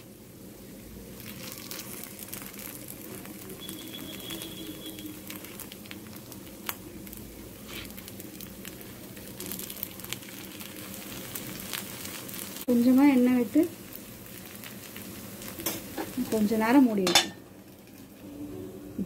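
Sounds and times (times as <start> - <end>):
frying oil crackling: 0.0 - 19.0.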